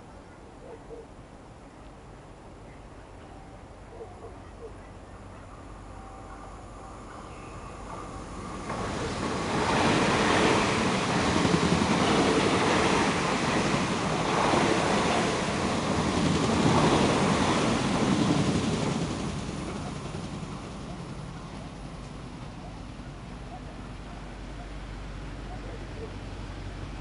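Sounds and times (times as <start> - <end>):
electric train passing: 4.6 - 27.0.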